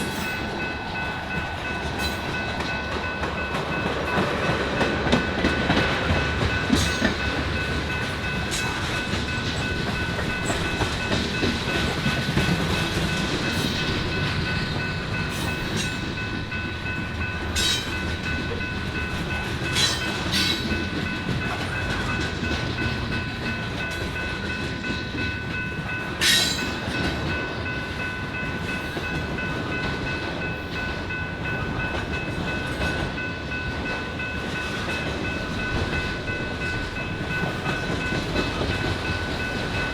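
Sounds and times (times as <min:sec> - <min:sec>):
freight train cars rumbling past: 0:00.0 - 0:39.9.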